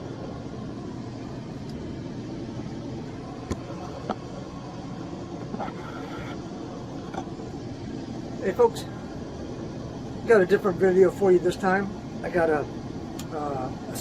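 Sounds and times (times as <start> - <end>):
background rumble and hiss: 0.0 - 14.0.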